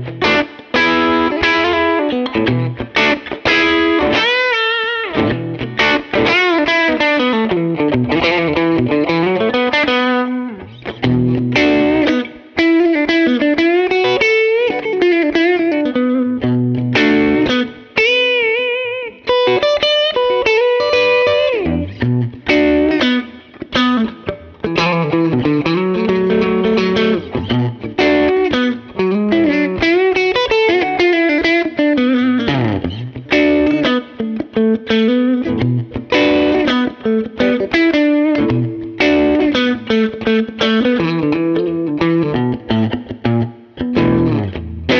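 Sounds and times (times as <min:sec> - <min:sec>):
electric guitar lead with bends: 0:00.0 - 0:44.9.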